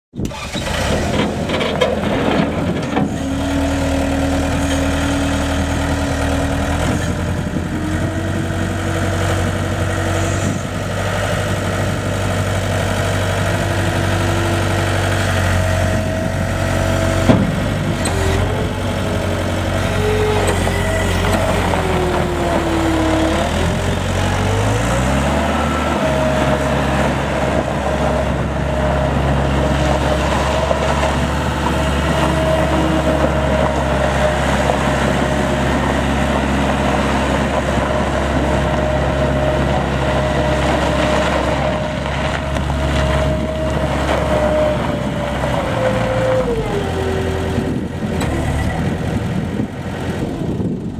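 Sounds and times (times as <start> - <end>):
diesel engine running: 0.2 - 50.9
wheels on gravel: 0.3 - 50.9.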